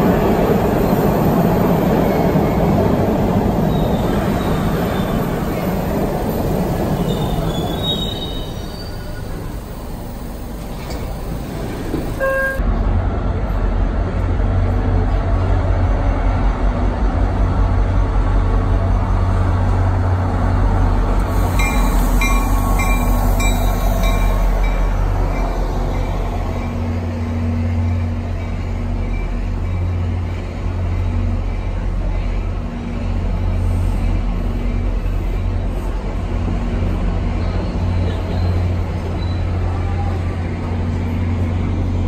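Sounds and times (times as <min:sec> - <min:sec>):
subway train at platform: 0:00.0 - 0:42.0
train coaches rumbling past: 0:00.0 - 0:42.0.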